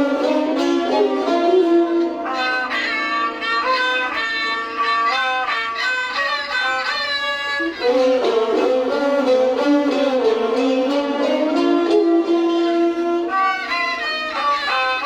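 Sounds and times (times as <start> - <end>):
bowed fiddle classical music: 0.0 - 15.0.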